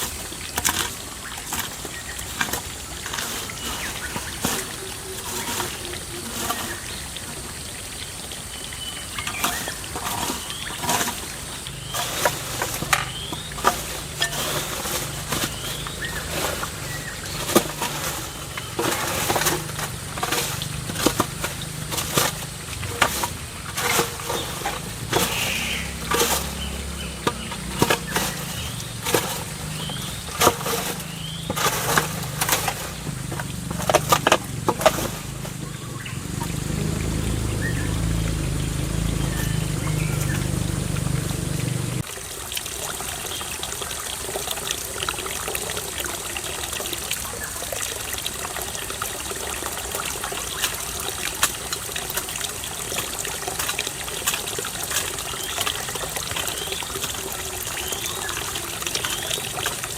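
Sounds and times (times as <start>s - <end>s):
water pouring and trickling: 0.0s - 59.9s.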